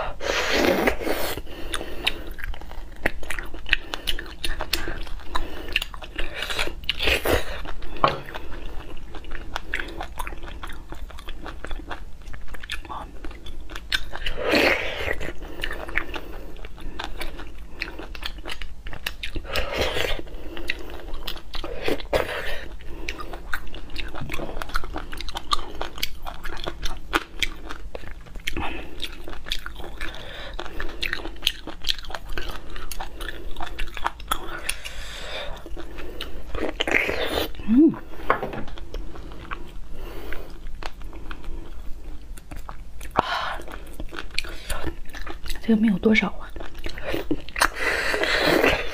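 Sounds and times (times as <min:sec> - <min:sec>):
wet chewing: 0:00.7 - 0:48.9.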